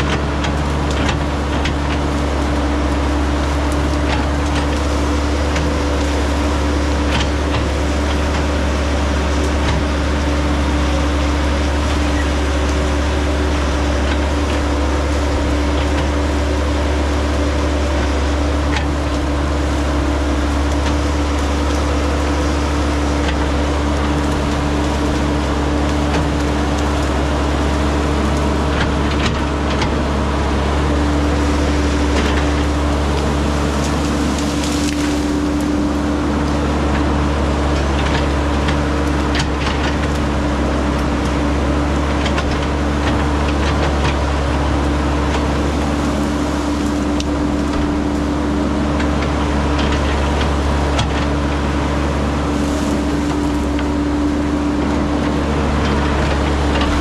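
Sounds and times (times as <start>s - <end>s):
branches cracking: 0.0s - 57.0s
excavator diesel engine droning: 0.0s - 57.0s.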